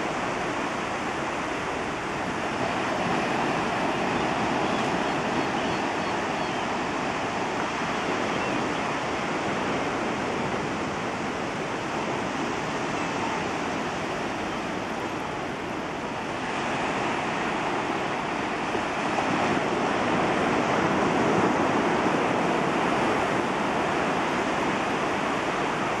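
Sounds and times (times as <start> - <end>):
surf breaking on shore: 0.0 - 26.0.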